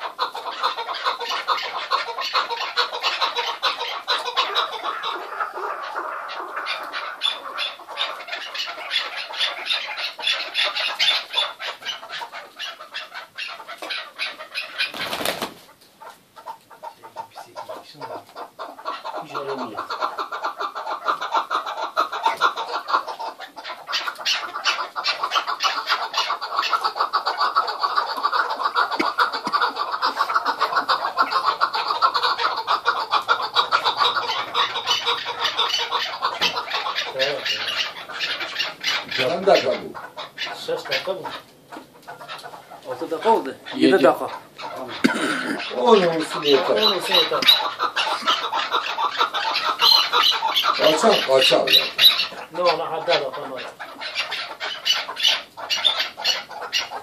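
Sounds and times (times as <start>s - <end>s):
partridges clucking: 0.0s - 57.0s.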